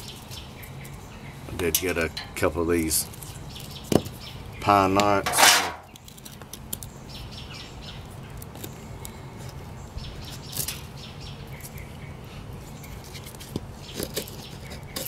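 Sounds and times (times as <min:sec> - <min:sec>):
birds chirping: 0:00.0 - 0:06.1, 0:06.8 - 0:15.0
low outdoor hum: 0:00.0 - 0:15.0.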